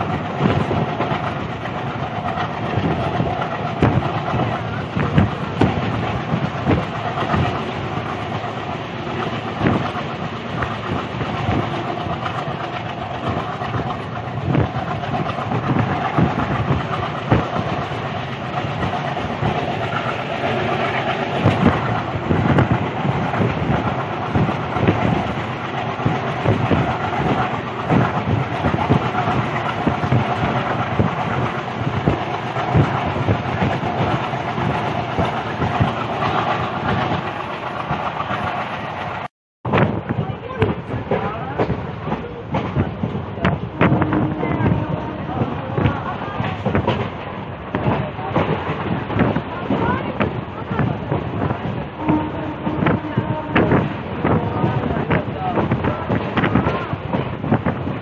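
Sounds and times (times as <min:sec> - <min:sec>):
train rolling rumble: 0:00.0 - 0:58.0
wheels clicking over rails: 0:00.0 - 0:58.0.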